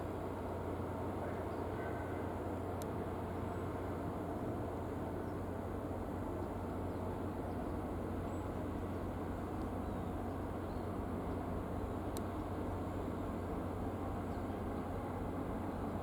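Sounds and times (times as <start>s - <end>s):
ship engines rumbling and humming: 0.0s - 16.0s.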